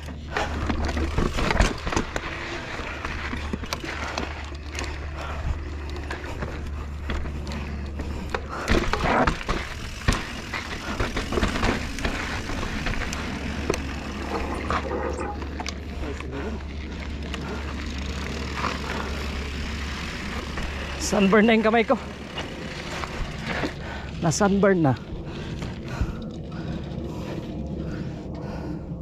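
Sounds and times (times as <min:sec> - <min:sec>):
wheels knocking on rocks: 0:00.0 - 0:25.8
tyres crunching on dirt and stones: 0:00.0 - 0:26.0
steady low rumble: 0:00.0 - 0:29.0.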